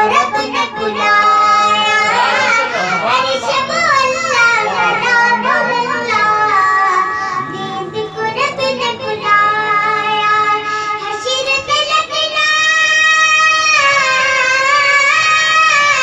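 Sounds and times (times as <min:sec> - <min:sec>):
boy singing into a microphone: 0:00.0 - 0:16.0.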